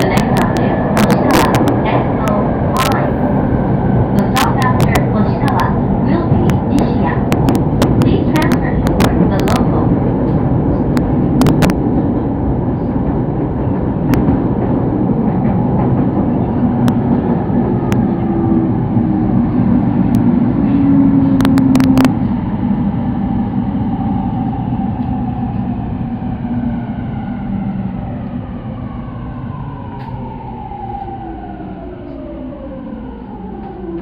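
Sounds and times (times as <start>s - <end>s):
train rumble on track: 0.0s - 34.0s.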